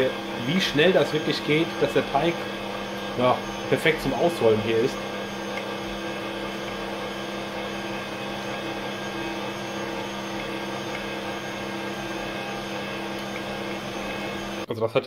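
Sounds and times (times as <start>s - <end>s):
stand mixer motor hum: 0.0s - 14.7s.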